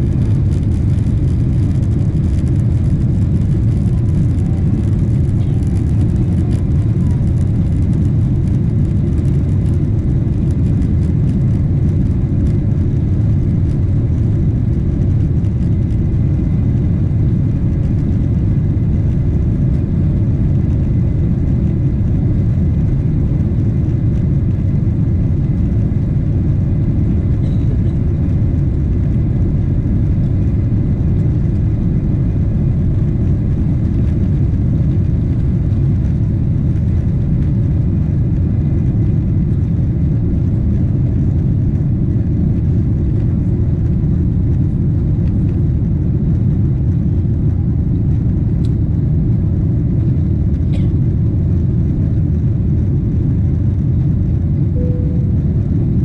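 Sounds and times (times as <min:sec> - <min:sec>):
airplane cabin engine noise: 0:00.0 - 0:56.0.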